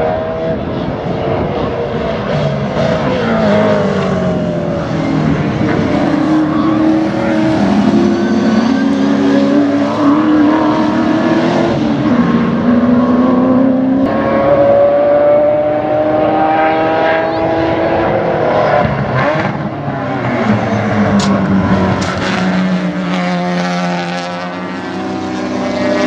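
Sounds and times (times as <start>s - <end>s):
engine climbing in pitch: 0.0s - 26.0s
race car engines revving: 0.0s - 26.0s.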